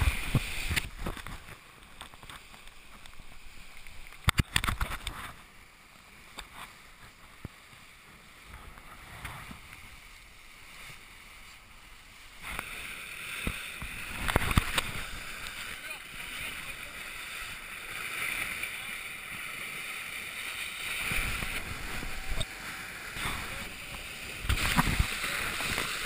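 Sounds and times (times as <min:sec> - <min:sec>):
water rushing along boat hull: 0:00.0 - 0:26.0.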